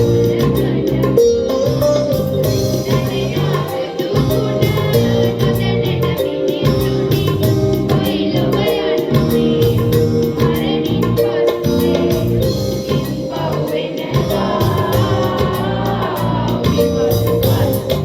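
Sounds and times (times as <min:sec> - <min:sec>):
group of voices singing: 0:00.0 - 0:18.0
instrumental accompaniment with beat: 0:00.0 - 0:18.0.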